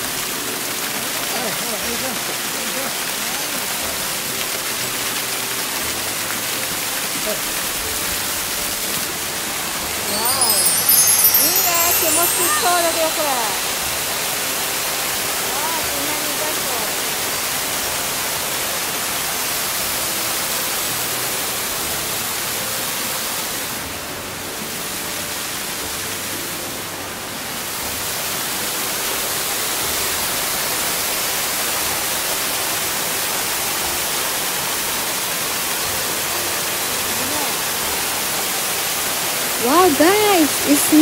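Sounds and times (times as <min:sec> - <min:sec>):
waterfall splashing into pool: 0:00.0 - 0:41.0.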